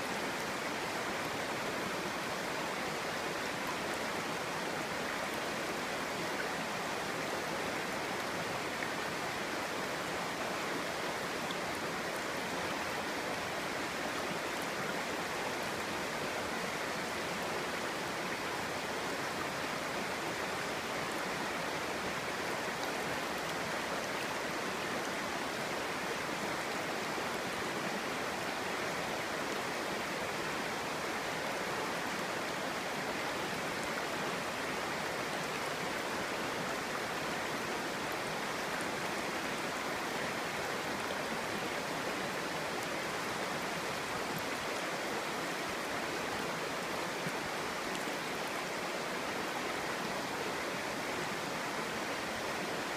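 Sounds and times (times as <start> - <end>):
stream babbling over stones: 0.0 - 52.9.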